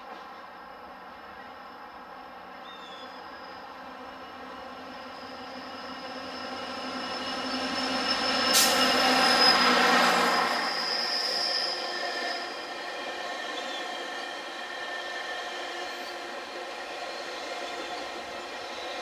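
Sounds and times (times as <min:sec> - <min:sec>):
diesel locomotive passing: 0:00.0 - 0:19.0
passenger coaches rolling by: 0:00.0 - 0:19.0
high wheel squeal: 0:02.6 - 0:19.0.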